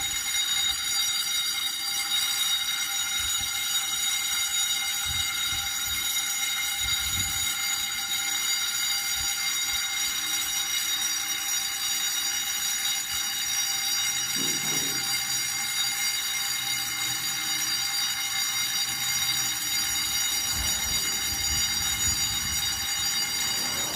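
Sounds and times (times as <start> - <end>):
fire alarm buzzing: 0.0 - 23.9.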